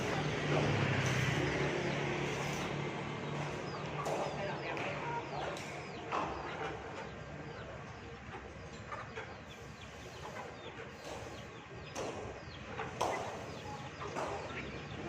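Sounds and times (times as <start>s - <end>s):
chickens clucking: 0.0s - 15.0s
small birds chirping: 0.0s - 15.0s.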